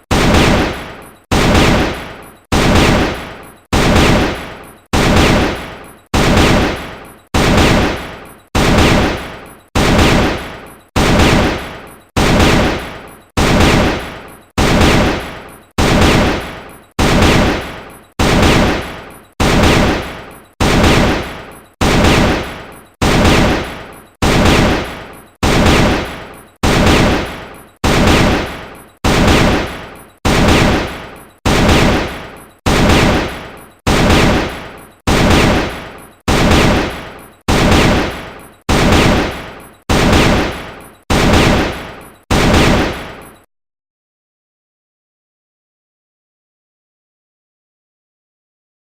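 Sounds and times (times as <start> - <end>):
rifle gunfire: 0.1 - 43.1.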